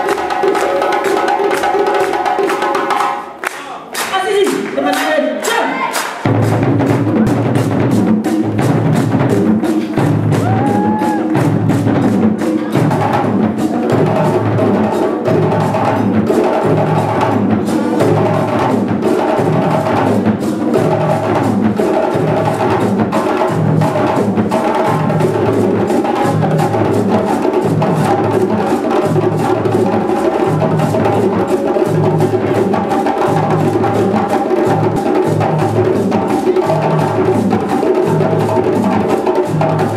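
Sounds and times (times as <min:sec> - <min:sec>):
djembe ensemble drumming: 0:00.0 - 0:39.9.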